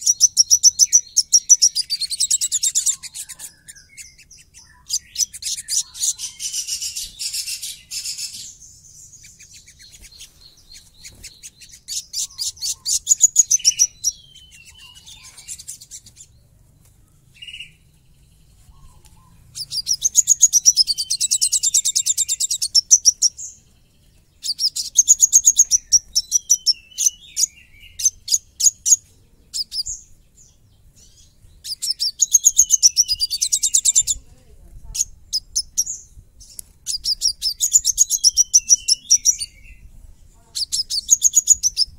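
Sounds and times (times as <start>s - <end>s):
sunbird rapid harsh chattering song: 0.0s - 16.5s, 17.1s - 41.9s.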